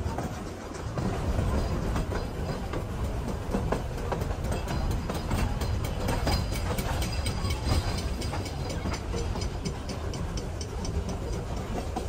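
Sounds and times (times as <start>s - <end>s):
train carriage rumbling: 0.0s - 12.0s
wheels clattering over rail joints: 0.0s - 12.0s.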